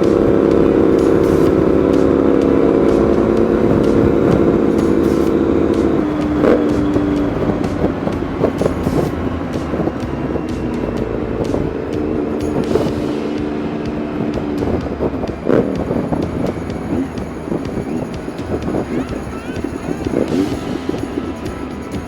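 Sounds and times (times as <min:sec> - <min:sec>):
motorcycle engine cruising: 0:00.0 - 0:22.0
wind noise: 0:00.0 - 0:22.0.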